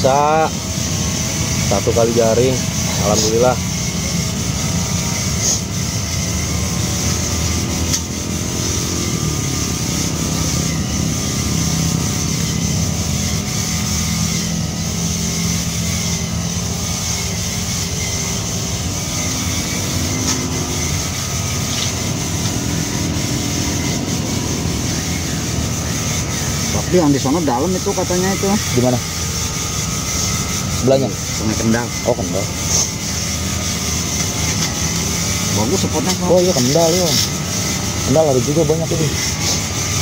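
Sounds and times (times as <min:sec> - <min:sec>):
engine hum: 0:00.0 - 0:40.0.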